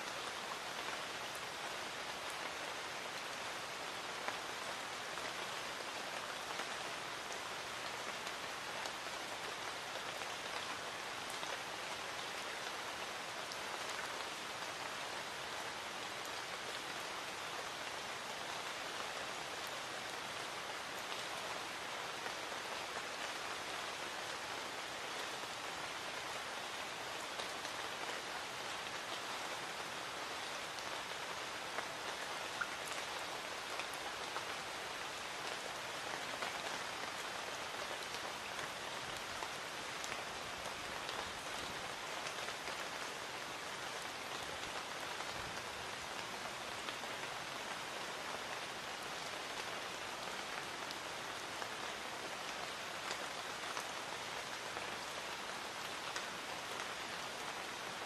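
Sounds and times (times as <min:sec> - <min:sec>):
light rain hiss: 0:00.0 - 0:58.0.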